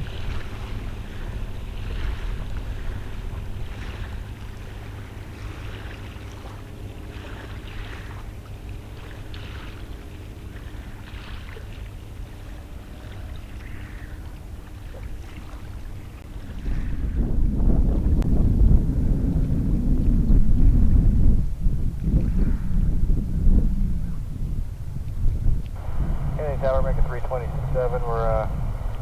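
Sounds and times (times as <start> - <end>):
distant jet engines rumbling: 0.0 - 29.0
wind buffeting microphone: 0.0 - 29.0.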